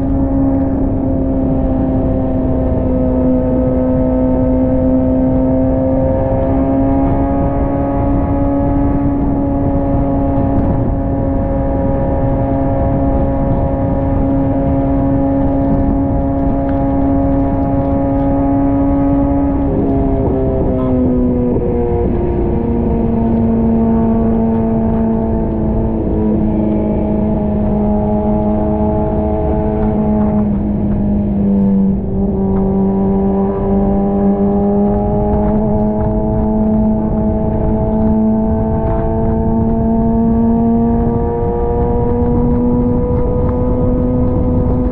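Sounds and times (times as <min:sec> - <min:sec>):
motorcycle engine cruising: 0:00.0 - 0:44.9
wind rush: 0:00.0 - 0:44.9.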